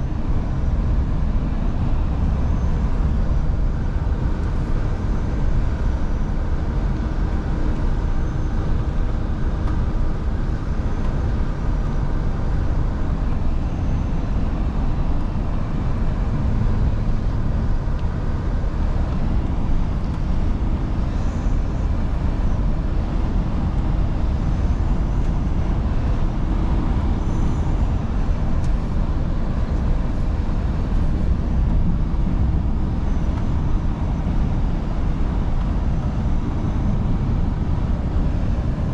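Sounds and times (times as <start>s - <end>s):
diesel truck engine drone: 0.0s - 38.9s.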